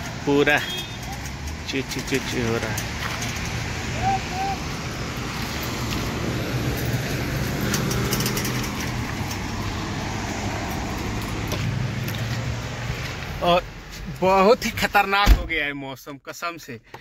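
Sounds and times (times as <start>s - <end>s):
traffic on wet road: 0.0s - 14.9s
vehicle engine humming: 0.0s - 14.9s.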